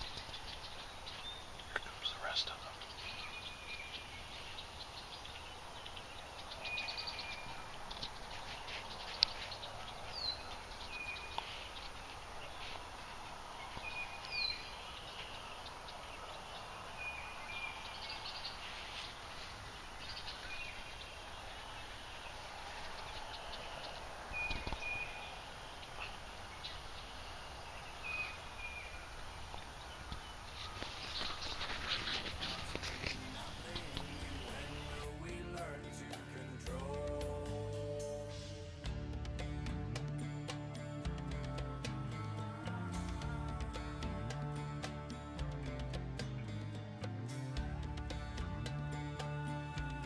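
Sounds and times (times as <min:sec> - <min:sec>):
songbirds calling: 0:00.0 - 0:50.0
steady outdoor hiss: 0:00.0 - 0:50.0.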